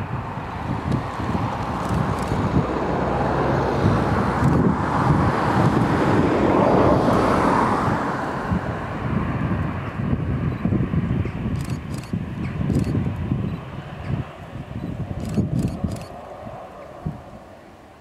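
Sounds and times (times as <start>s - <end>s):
jet engines rushing: 0.0s - 18.0s
wind rumbling on microphone: 0.0s - 18.0s.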